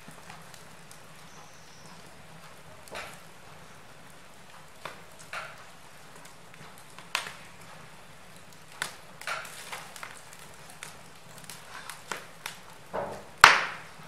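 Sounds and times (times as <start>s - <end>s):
low fire hiss: 0.0s - 14.0s
wood fire crackling and popping: 0.0s - 14.0s.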